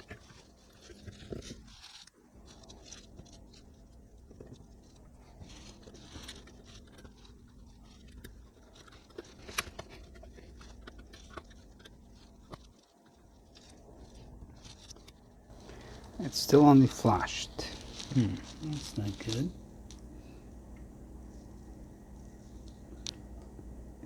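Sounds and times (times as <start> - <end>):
small parts clicking and scraping: 0.0 - 24.0.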